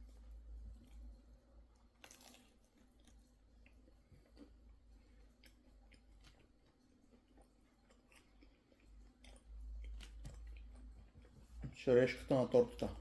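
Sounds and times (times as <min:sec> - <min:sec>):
faint chewing: 0:00.0 - 0:12.2.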